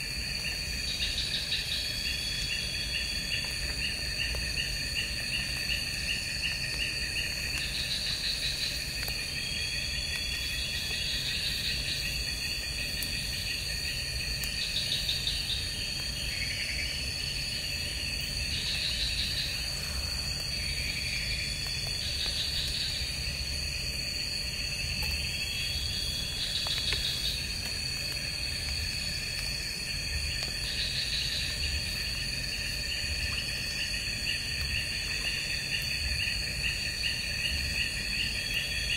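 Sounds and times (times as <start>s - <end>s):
crickets and insects chirping: 0.0s - 38.9s
high steady insect trill: 0.0s - 38.9s.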